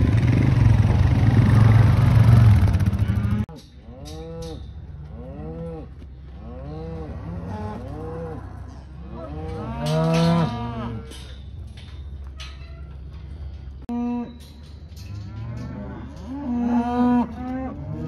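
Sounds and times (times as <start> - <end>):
cows and calves mooing: 0.2 - 18.0.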